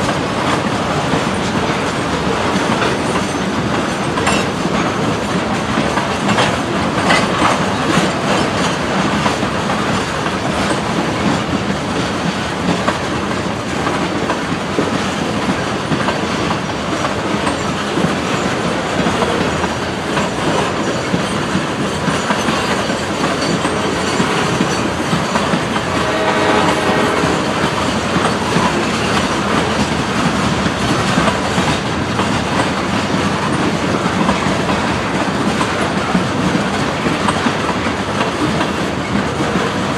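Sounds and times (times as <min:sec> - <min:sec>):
freight train wheels clacking on rails: 0:00.0 - 0:39.9.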